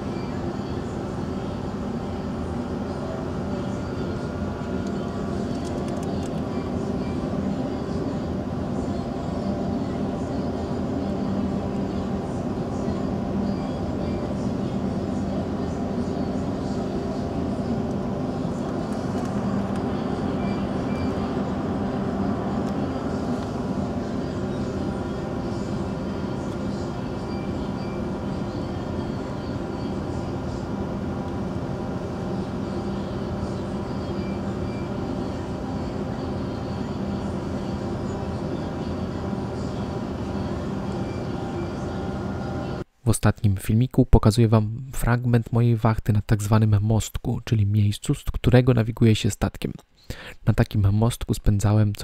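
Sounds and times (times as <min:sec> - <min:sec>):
machinery drone: 0:00.0 - 0:42.9.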